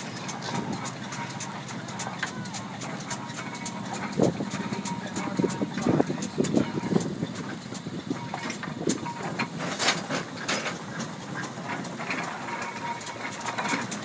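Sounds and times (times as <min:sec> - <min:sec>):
steam engine mechanical clatter: 0:00.0 - 0:14.0.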